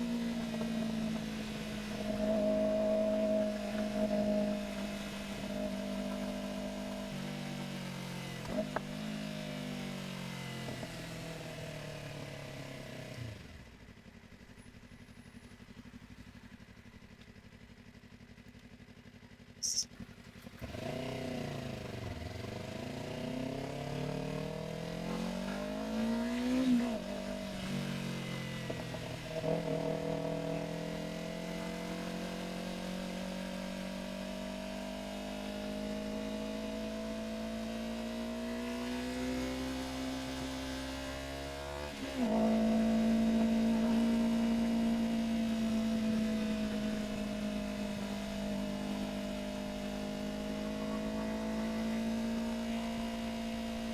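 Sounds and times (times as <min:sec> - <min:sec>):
motorcycle engine: 0:00.0 - 0:53.9.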